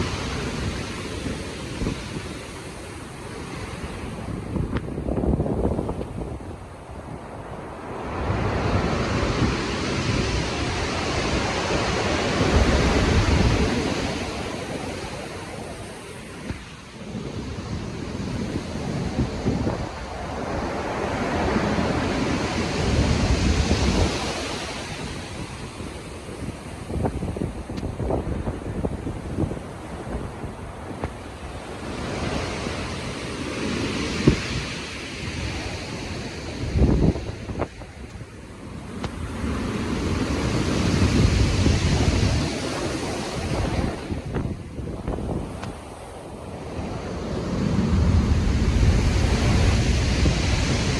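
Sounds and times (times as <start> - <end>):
ocean waves breaking: 0.0 - 50.9
wind: 0.0 - 50.9.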